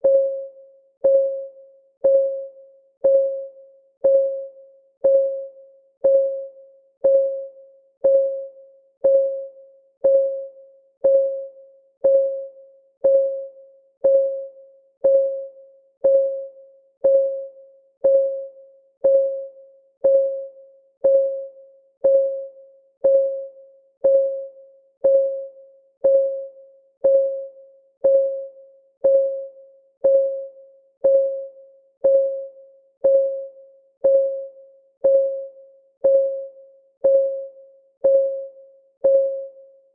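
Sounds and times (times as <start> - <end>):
countdown timer ticking: 2.0 - 2.4, 3.0 - 4.4, 5.0 - 39.6.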